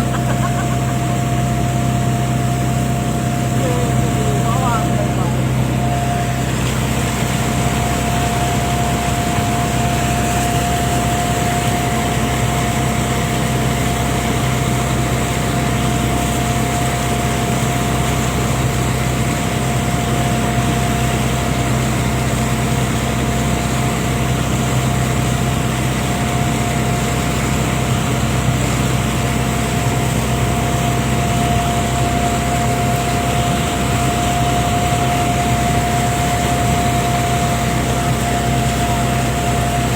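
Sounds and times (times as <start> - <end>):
boat engine running: 0.0 - 39.9
steady whine: 0.0 - 39.9.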